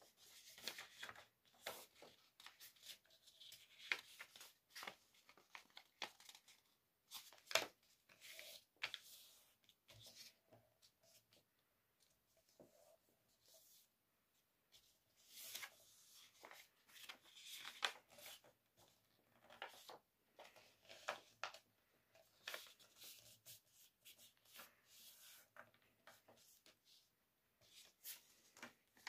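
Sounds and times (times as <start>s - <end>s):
paper rustling and crinkling: 0.0s - 11.4s, 14.8s - 26.9s.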